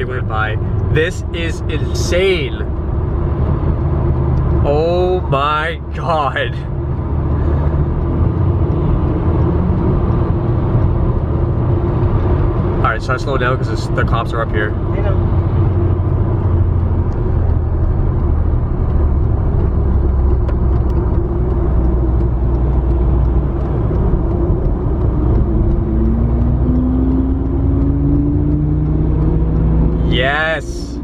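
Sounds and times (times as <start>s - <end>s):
car engine: 0.0s - 31.0s
road rumble: 0.0s - 31.0s.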